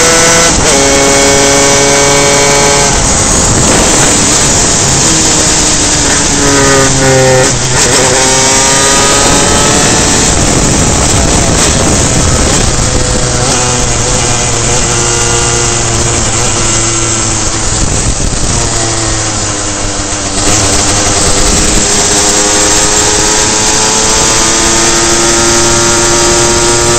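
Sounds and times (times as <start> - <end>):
kart engine running hard: 0.0 - 26.9.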